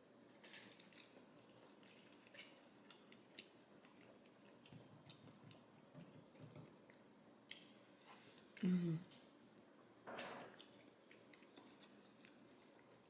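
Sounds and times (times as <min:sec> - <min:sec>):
soft chewing: 0:00.2 - 0:13.0.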